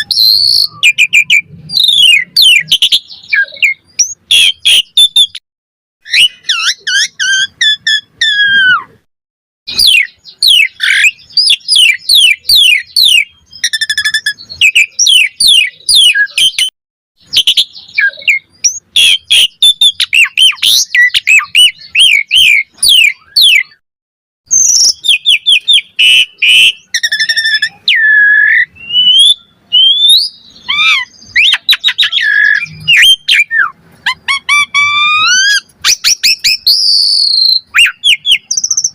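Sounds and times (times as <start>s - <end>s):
starling singing: 0.0s - 5.4s, 6.0s - 9.0s, 9.7s - 23.8s, 24.5s - 38.9s.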